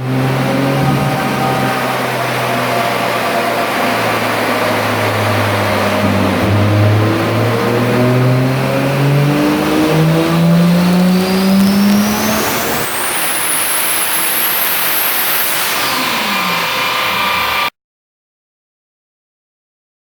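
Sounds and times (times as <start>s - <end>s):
car engine revving: 0.0s - 17.7s
high-pitched turbo whine: 0.0s - 17.7s.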